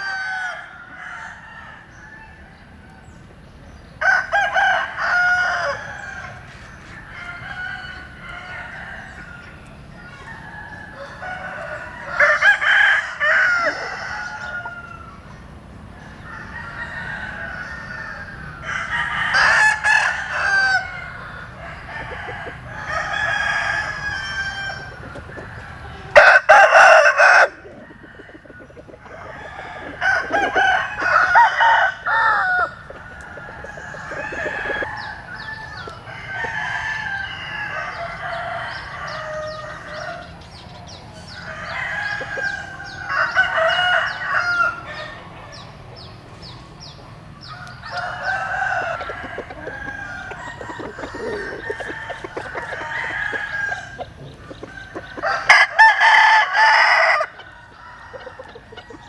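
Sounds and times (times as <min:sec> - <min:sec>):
roosters crowing: 0:00.0 - 0:59.0.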